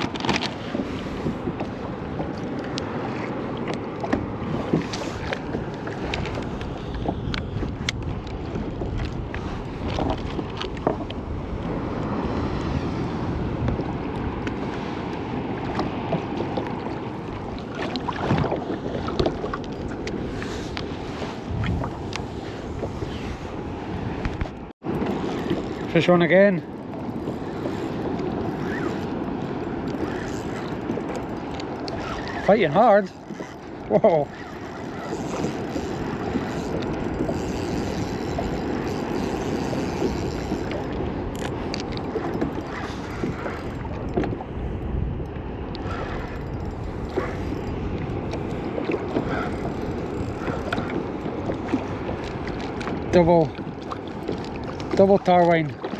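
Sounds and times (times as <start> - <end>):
water slapping against hull: 0.0 - 55.9
wind buffeting microphone: 0.0 - 55.9.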